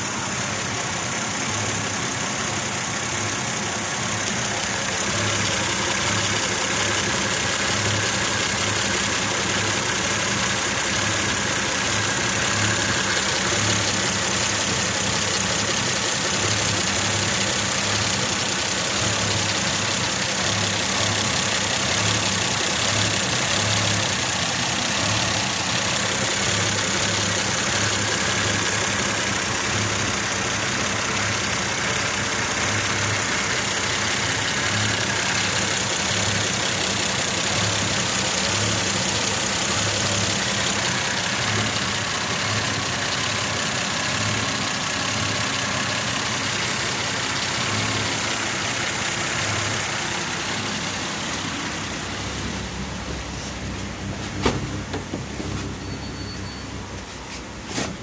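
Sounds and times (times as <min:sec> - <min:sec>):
car engine idling roughly: 0:00.0 - 0:58.0.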